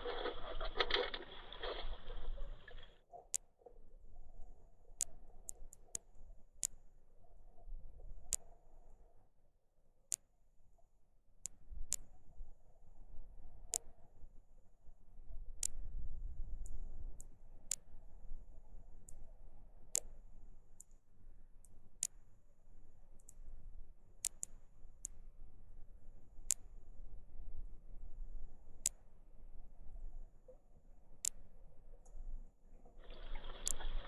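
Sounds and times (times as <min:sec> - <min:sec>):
sharp underwater clicks: 0:00.0 - 0:09.2, 0:10.1 - 0:12.7, 0:13.4 - 0:14.2, 0:15.3 - 0:34.0
low rumble of moving water: 0:00.0 - 0:34.0.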